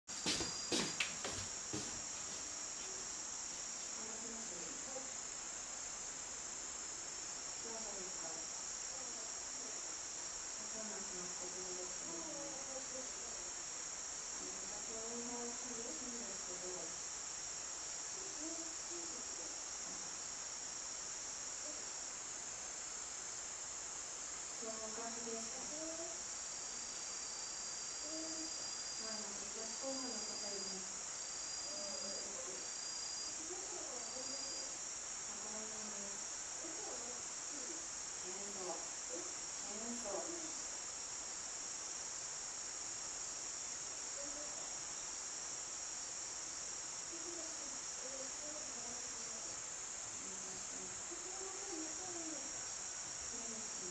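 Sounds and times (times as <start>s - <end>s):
insects droning: 0.1s - 53.9s
pulsing insect tone: 0.1s - 53.9s.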